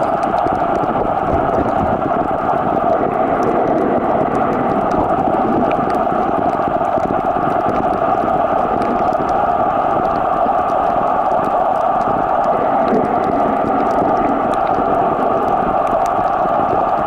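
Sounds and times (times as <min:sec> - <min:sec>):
faint clicks: 0:00.0 - 0:17.0
underwater rushing noise: 0:00.0 - 0:17.0.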